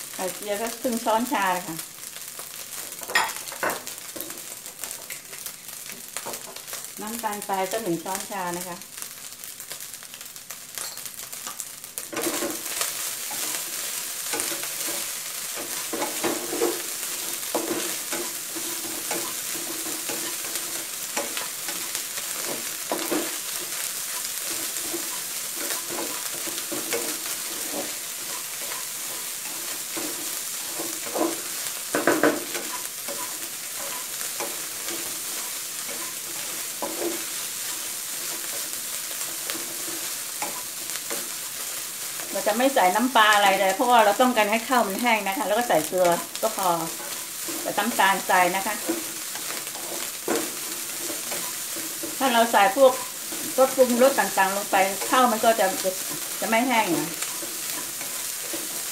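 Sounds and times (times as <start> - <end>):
rice sizzling in a wok: 0.0 - 58.9
wooden spatula scraping wok: 11.0 - 58.9.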